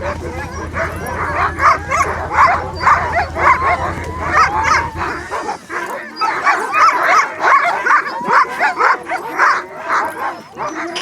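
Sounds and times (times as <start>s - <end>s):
dogs yipping and whining: 0.0s - 11.0s.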